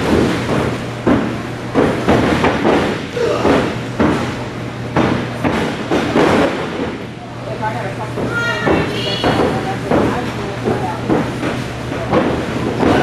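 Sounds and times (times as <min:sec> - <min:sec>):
heavy thuds on wooden ring boards: 0:00.0 - 0:07.2, 0:08.1 - 0:13.0.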